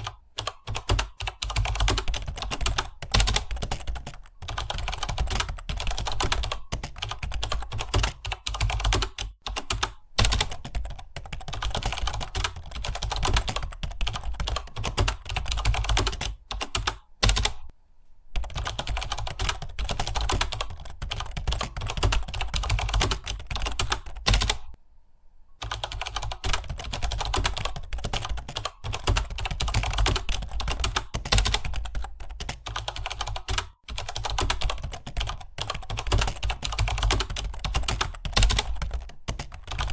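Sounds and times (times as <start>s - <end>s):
fast keyboard typing: 0.0s - 17.7s, 18.4s - 24.8s, 25.6s - 39.9s.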